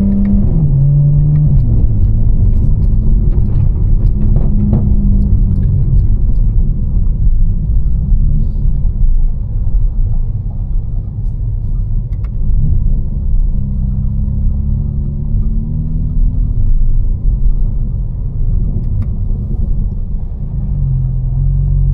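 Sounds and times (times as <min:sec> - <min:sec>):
car engine droning while driving: 0:00.0 - 0:21.9.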